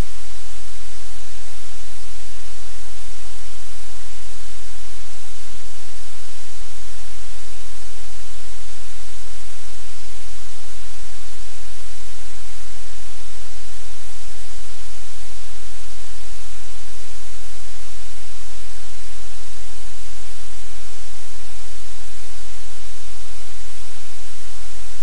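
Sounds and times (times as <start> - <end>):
loud static hiss: 0.0 - 25.0.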